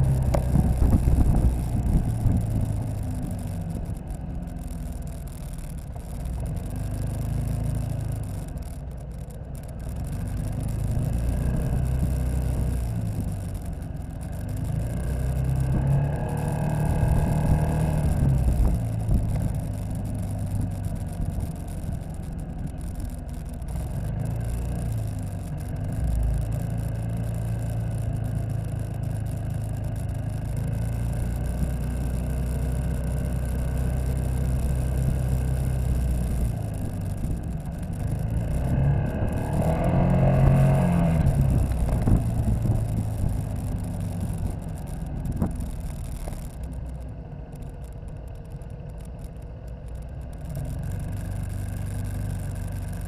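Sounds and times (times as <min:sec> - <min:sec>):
scooter engine running: 0:00.0 - 0:53.0.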